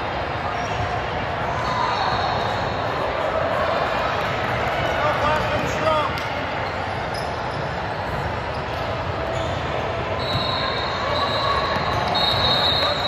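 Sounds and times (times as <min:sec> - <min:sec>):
indistinct crowd noise in a gym: 0:00.0 - 0:13.0.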